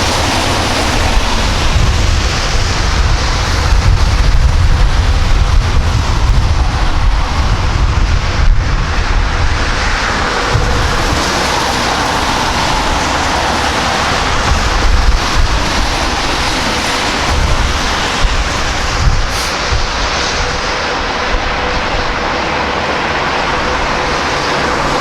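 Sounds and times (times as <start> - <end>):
jet engine noise: 0.0 - 25.0
wind rumbling on microphone: 0.0 - 25.0.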